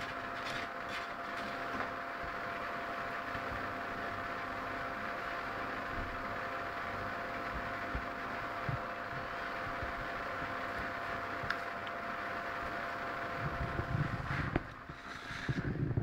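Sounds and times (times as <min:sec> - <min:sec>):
faint steady whine: 0:00.0 - 0:16.0
steady background hum: 0:00.0 - 0:16.0.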